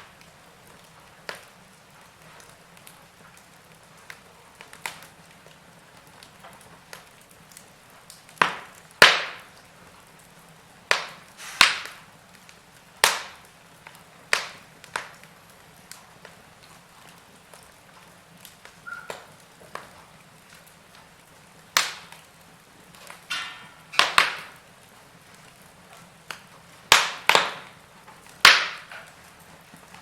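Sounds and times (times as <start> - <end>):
logs crackling and popping in fire: 0.0 - 30.0.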